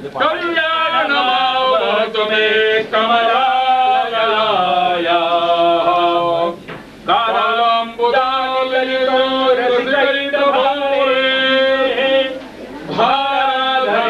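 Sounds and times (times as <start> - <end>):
men chanting: 0.2 - 14.0.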